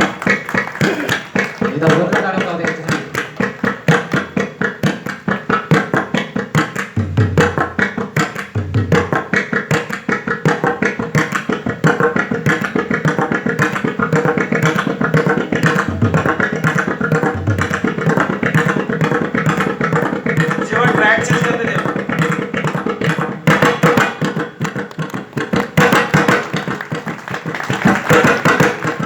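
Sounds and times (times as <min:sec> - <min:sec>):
hand drum rapid strokes: 0:00.0 - 0:29.0.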